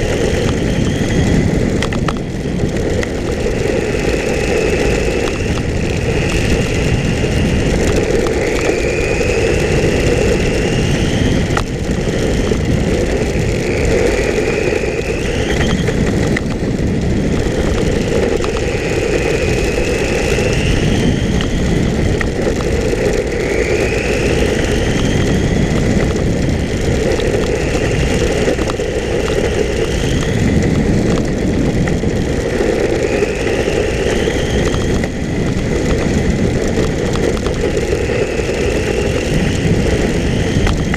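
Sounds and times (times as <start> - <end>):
electric motor whining: 0.0 - 40.9
wind and tyre noise: 0.0 - 40.9.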